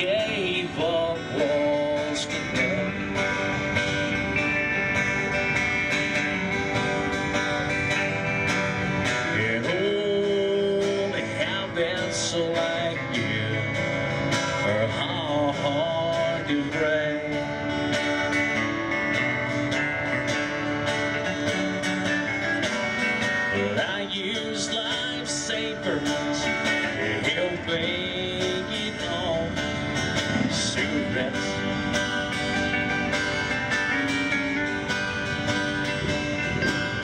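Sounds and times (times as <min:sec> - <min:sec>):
country music acoustic guitar: 0:00.0 - 0:37.0.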